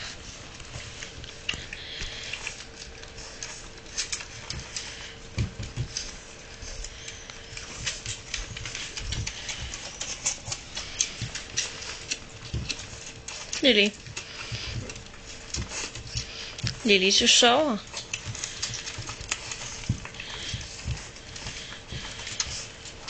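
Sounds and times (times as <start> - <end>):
paws scratching on wooden floor: 0.0 - 23.0.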